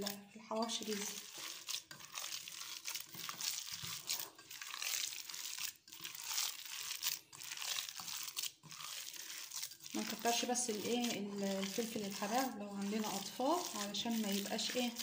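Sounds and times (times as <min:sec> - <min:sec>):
hand squishing minced meat: 0:00.0 - 0:15.0.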